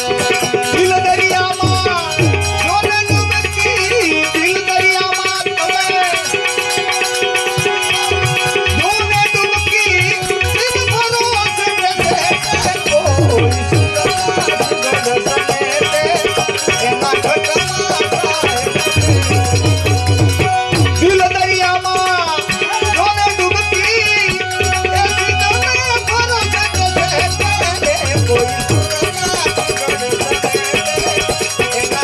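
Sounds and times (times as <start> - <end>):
devotional song melody: 0.0 - 32.0
fast ticking beat: 0.0 - 32.0
hand drum percussion: 0.0 - 32.0.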